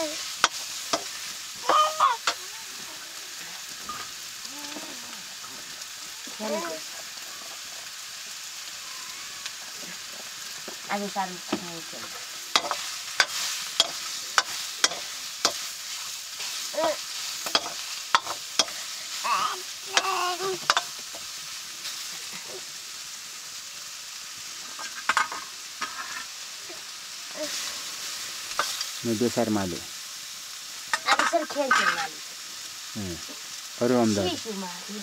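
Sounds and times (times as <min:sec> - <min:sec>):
chicken sizzling in a pan: 0:00.0 - 0:35.0.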